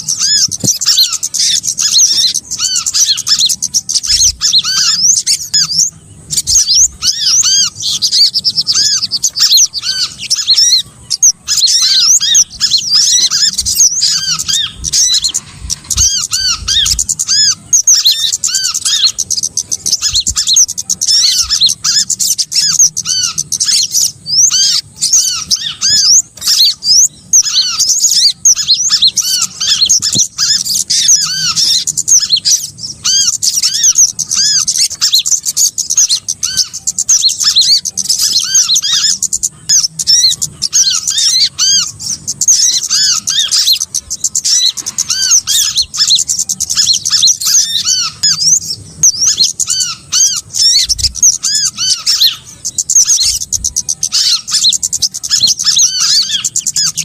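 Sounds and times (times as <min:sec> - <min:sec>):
small birds chirping chorus: 0:00.0 - 0:57.0.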